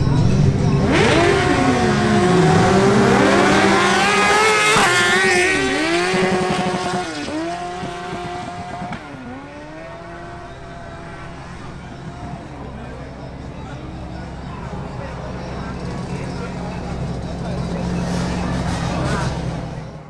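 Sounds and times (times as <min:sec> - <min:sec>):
sport bike engines at full throttle: 0:00.0 - 0:20.0.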